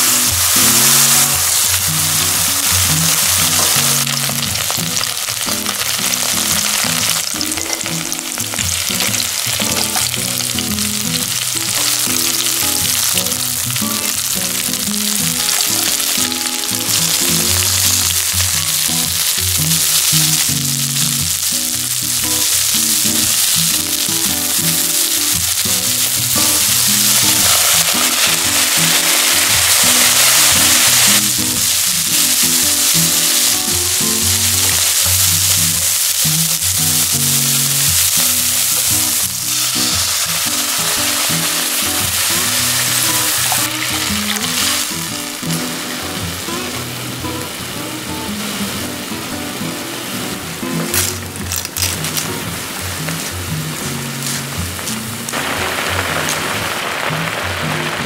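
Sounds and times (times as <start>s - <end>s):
meat and shrimp sizzling in a pan: 0.0s - 50.0s, 53.0s - 58.0s
background music: 0.0s - 58.0s.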